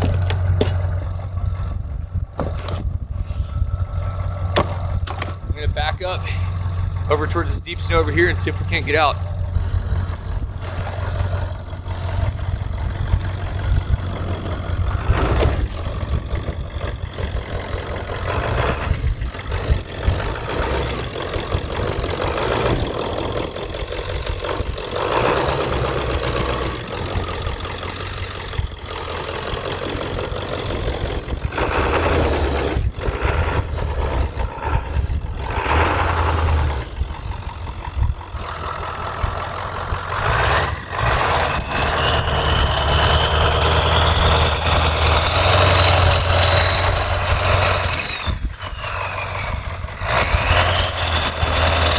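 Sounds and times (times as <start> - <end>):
diesel pickup engine under load: 0.0 - 51.9.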